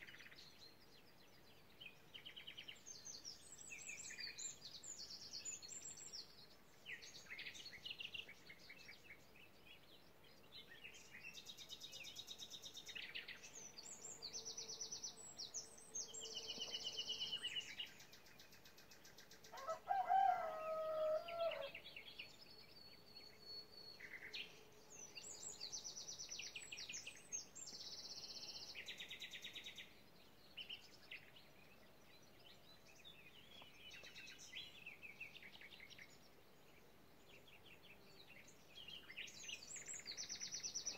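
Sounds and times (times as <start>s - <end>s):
songbirds trilling and twittering: 0.0s - 40.9s.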